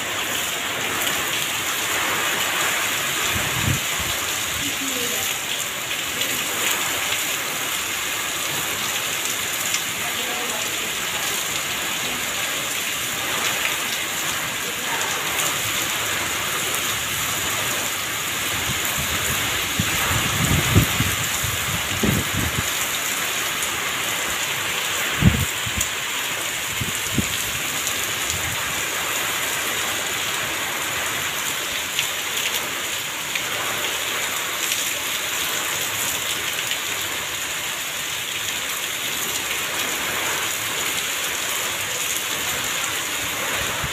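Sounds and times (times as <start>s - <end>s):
heavy rain on pavement: 0.0s - 43.9s.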